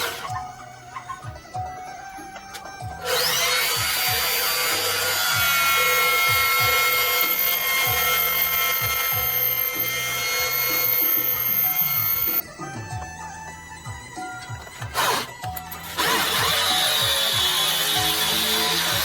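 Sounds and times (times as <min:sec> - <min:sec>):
electric motor whine: 0:00.0 - 0:00.4, 0:02.8 - 0:13.1, 0:14.2 - 0:19.0
music with a steady beat: 0:00.0 - 0:19.0.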